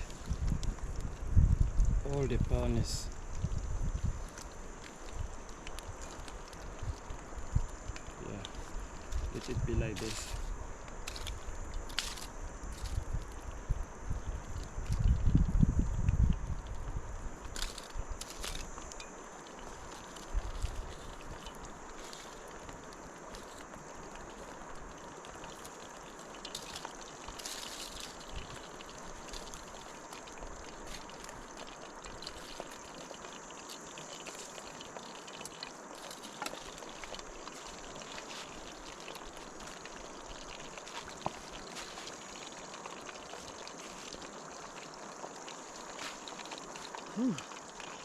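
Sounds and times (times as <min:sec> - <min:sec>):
trickling water: 0:00.0 - 0:48.0.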